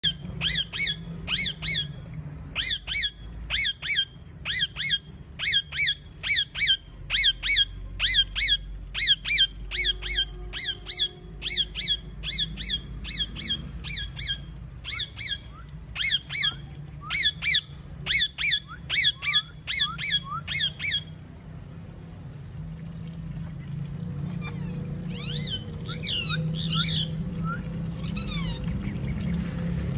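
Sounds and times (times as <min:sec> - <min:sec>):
parakeet screeching: 0:00.0 - 0:21.1, 0:24.4 - 0:27.2, 0:28.0 - 0:28.7.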